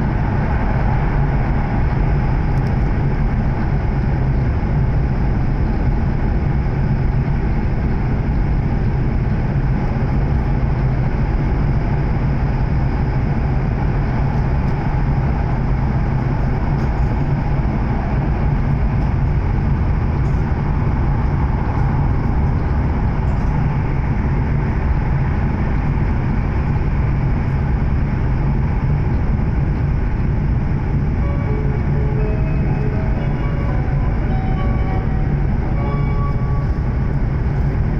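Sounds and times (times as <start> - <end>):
train interior rumble and hiss: 0.0 - 37.9.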